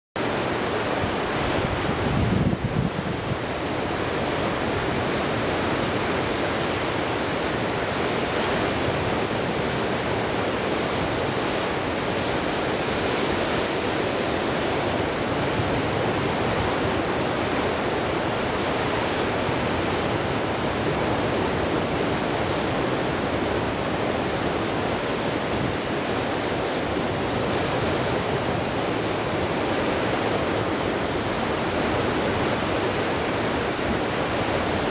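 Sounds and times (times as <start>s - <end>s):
low rumble of surf: 0.2s - 34.9s
ocean surf breaking on shore: 0.2s - 34.9s.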